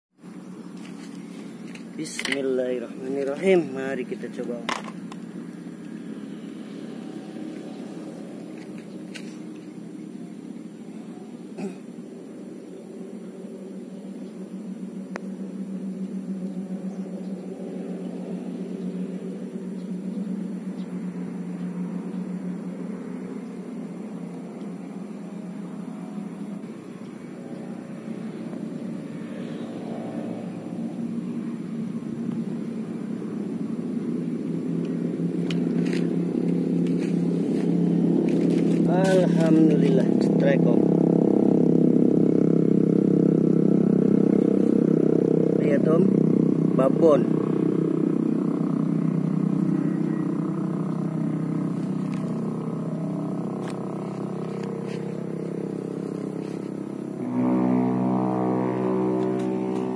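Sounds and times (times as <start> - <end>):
engine drone: 0.1 - 59.9.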